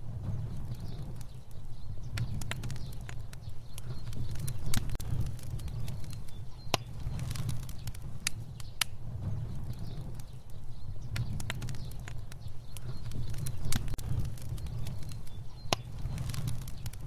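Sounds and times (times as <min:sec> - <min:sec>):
fire burning: 0:00.0 - 0:17.0.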